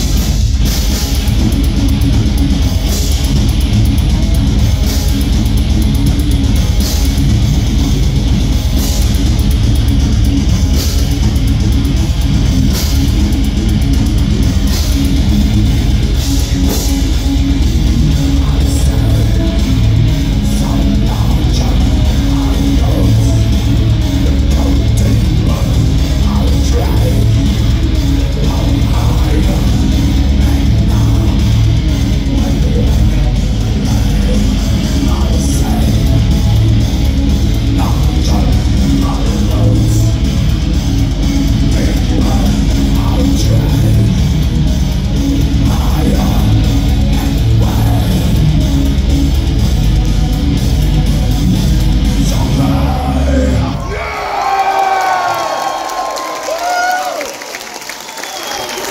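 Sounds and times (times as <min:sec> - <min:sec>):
distorted electric guitars: 0:00.0 - 0:58.9
heavy metal band playing: 0:00.0 - 0:58.9.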